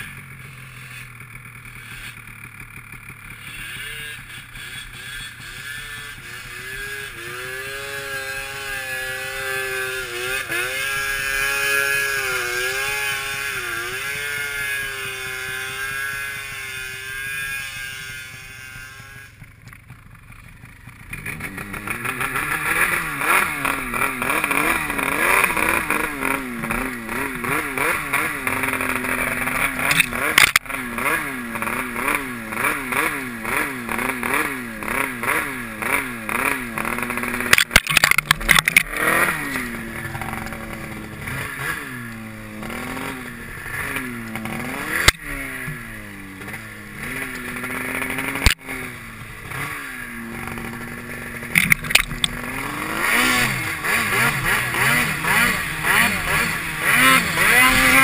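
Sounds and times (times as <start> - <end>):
snowmobile engine revving: 0.0 - 19.4, 20.0 - 58.0.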